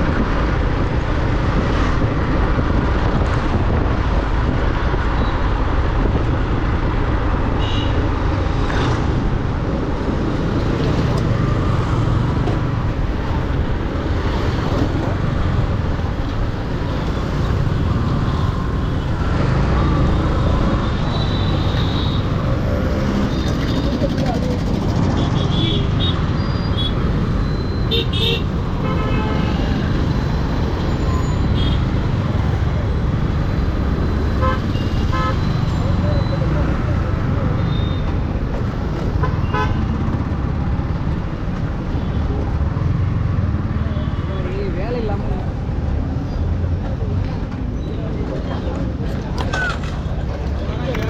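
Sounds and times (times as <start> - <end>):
wind and road noise: 0.0 - 51.0.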